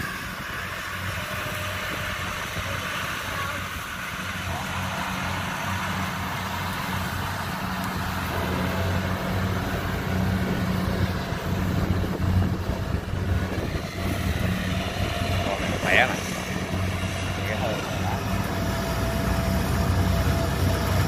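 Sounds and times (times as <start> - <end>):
broad mechanical noise: 0.0 - 21.0
combine harvester diesel drone: 0.0 - 21.0.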